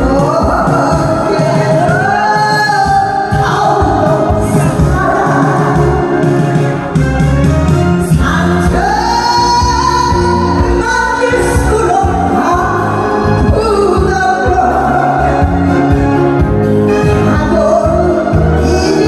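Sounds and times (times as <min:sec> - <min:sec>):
woman singing into microphone: 0:00.0 - 0:06.2, 0:08.0 - 0:15.8, 0:17.0 - 0:19.0
amplified backing music: 0:00.0 - 0:19.0.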